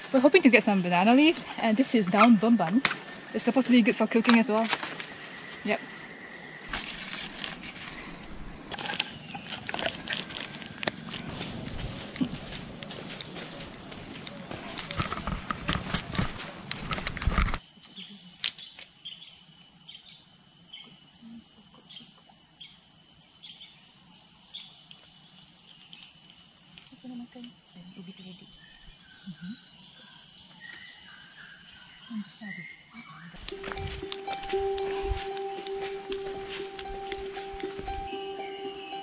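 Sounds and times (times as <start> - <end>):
high-pitched insect drone: 0.0 - 18.4, 26.2 - 39.0.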